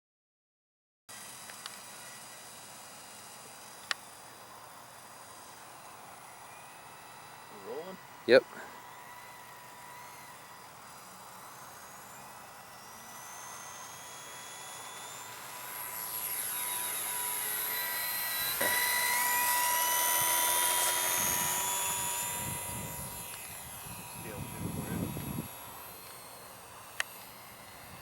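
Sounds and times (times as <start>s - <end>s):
model plane motor whine: 1.1s - 28.0s.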